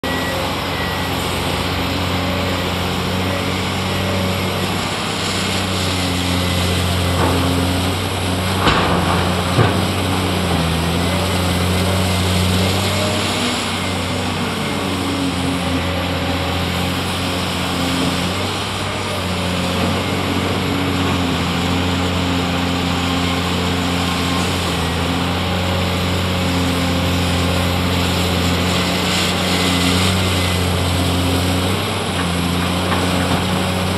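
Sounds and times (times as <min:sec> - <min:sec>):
excavator diesel engine working: 0:00.0 - 0:33.9.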